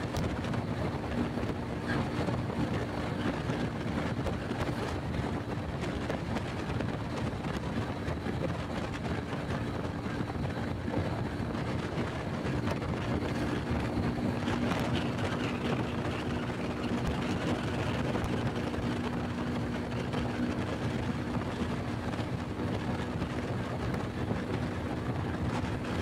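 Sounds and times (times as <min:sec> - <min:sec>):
motorcycle engine cruising: 0:00.0 - 0:26.0
wind on microphone: 0:00.0 - 0:26.0.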